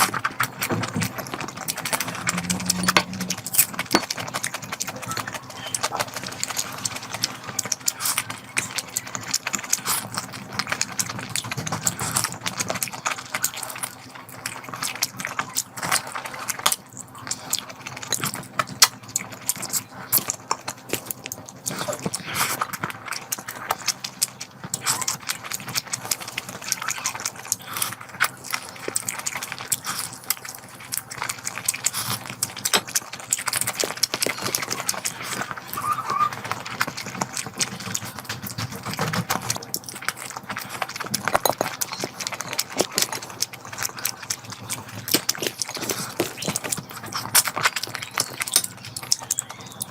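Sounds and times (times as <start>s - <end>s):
wet chewing and lip smacking: 0.0s - 49.9s.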